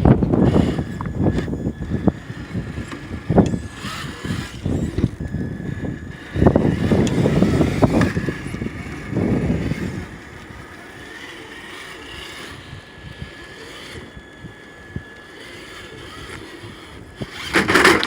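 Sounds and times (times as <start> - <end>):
faint electric motor whine: 0.0 - 18.0
wind buffeting microphone: 0.0 - 18.0.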